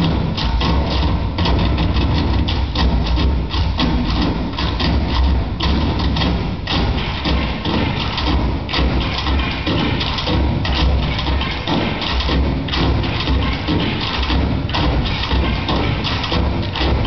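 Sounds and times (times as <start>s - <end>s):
tap shoes on wooden stage: 0.0s - 17.0s.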